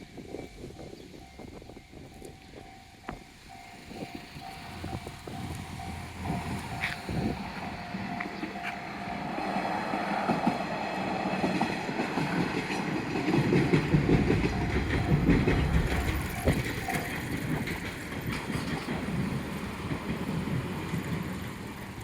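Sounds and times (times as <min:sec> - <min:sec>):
crossing warning tone: 0:00.0 - 0:11.8, 0:13.1 - 0:20.1
train wheels clattering over rails: 0:02.4 - 0:22.0.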